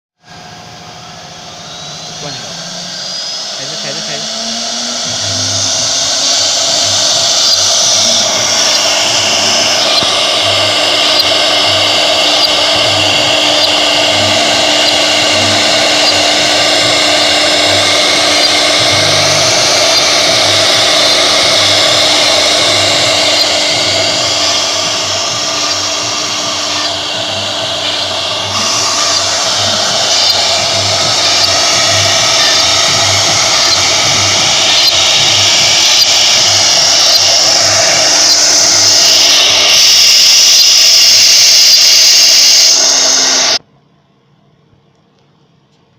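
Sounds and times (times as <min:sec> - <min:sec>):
cnc router spindle whirring: 0:00.2 - 0:43.7.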